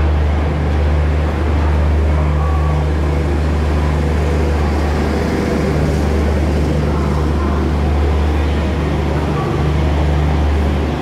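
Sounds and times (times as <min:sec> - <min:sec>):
train coaches rolling slowly: 0:00.0 - 0:11.0.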